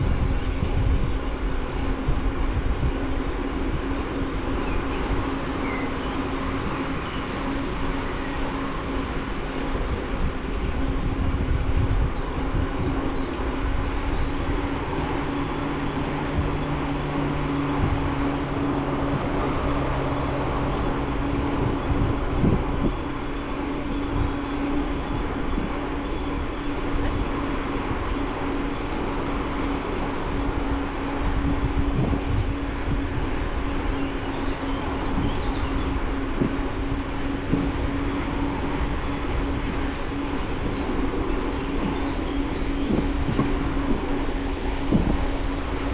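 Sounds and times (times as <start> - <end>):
lower hum: 0.0 - 45.9
steady hum: 0.0 - 45.9
wind on camera: 0.0 - 45.9.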